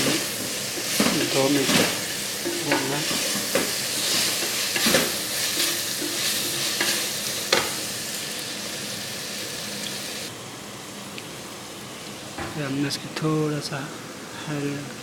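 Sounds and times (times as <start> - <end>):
food sizzling in a pan: 0.0 - 12.4.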